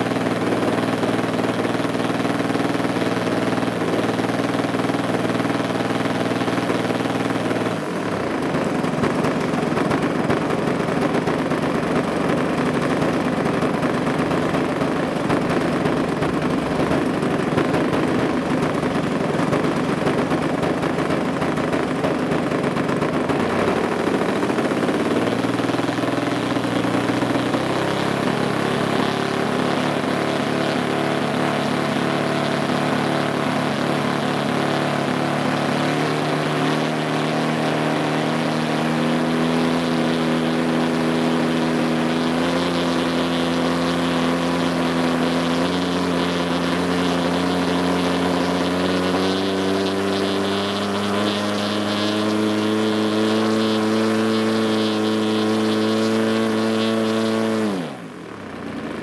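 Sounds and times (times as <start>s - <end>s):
model plane engine running: 0.0s - 59.0s.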